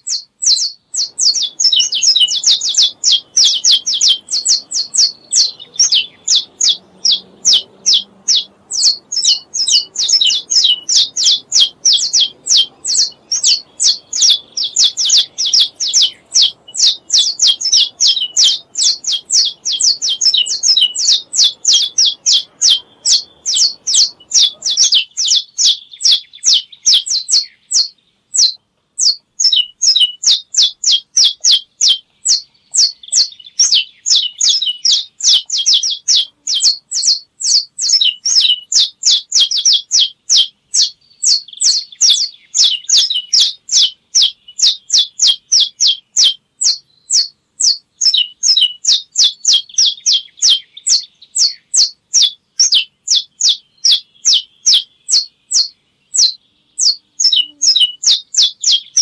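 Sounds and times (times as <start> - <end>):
finch singing high notes: 0.0 - 59.0.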